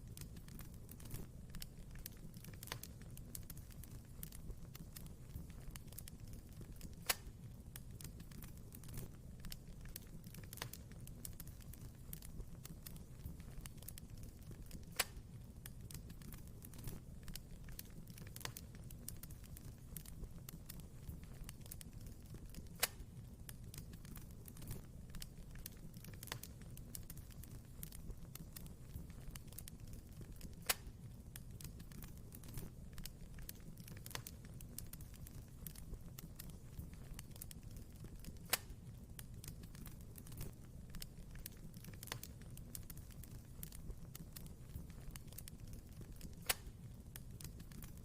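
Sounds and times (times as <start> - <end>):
wood fire crackling: 0.0 - 48.0
loud fire pops: 0.1 - 48.0.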